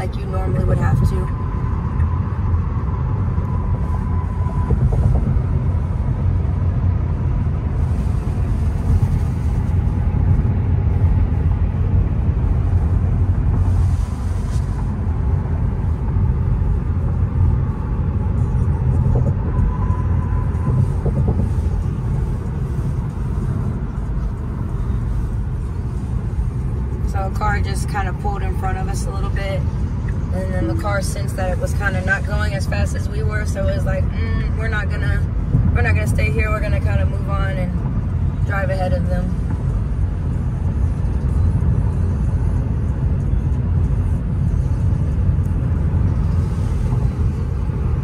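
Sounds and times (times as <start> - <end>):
road rumble and tyre noise: 0.0 - 48.0.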